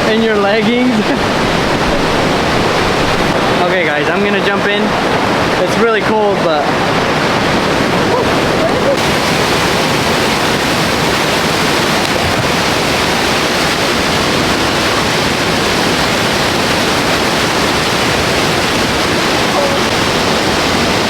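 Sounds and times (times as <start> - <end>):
falling water roaring: 0.0 - 21.0.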